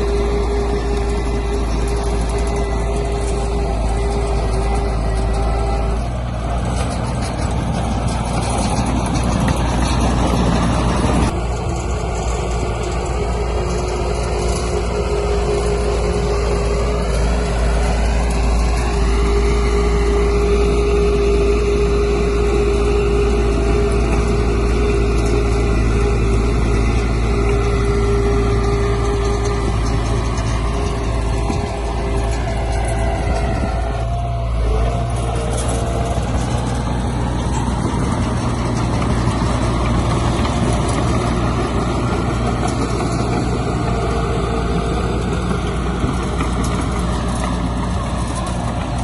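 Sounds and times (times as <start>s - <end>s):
heavy diesel machinery running: 0.0s - 49.0s.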